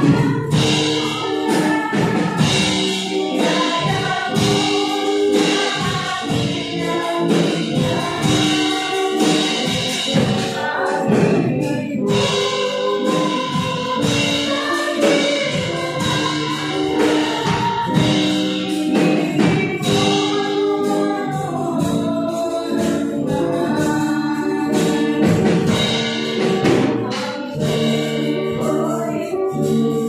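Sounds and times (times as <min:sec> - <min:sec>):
band with drum kit: 0:00.0 - 0:30.0
women singing into microphones: 0:00.0 - 0:30.0.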